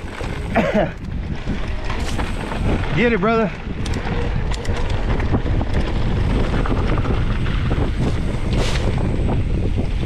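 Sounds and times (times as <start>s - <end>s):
bike tyres clattering and crunching: 0.0s - 10.0s
wind buffeting microphone: 0.0s - 10.0s.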